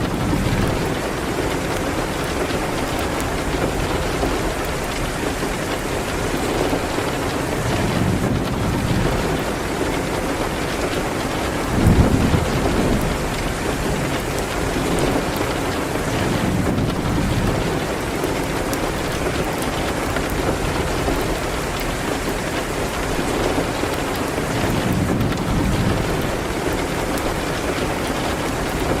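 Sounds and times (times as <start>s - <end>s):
rain hitting a window: 0.0s - 29.0s.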